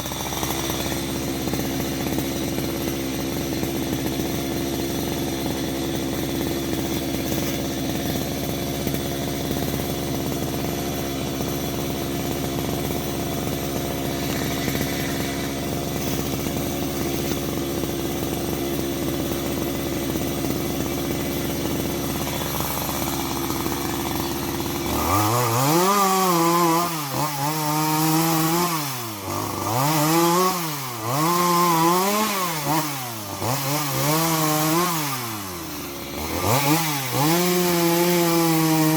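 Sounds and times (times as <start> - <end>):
small engine revving: 0.0 - 38.9.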